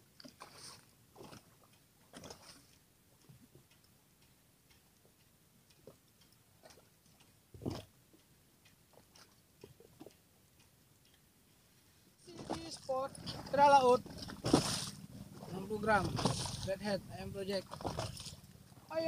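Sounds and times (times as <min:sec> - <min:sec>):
faint irregular clicks: 0:00.0 - 0:19.0.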